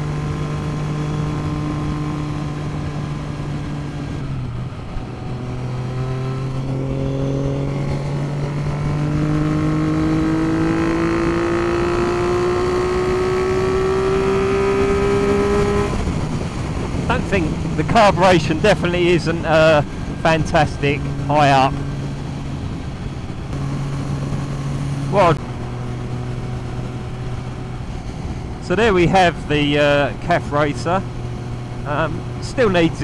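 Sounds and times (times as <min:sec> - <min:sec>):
wind noise: 0:00.0 - 0:30.0
motorcycle engine revving: 0:00.0 - 0:33.0.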